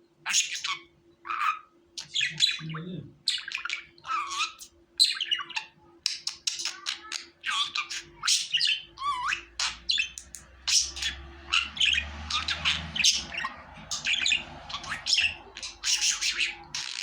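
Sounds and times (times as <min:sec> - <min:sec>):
budgerigar chattering: 0:00.3 - 0:17.0.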